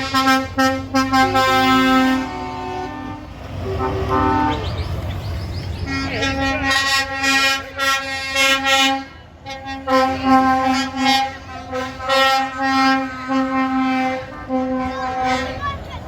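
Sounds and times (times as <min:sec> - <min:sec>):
lorry air horn blasts: 0:00.0 - 0:04.7, 0:05.9 - 0:15.7
low rumble of passing trucks: 0:00.0 - 0:16.0.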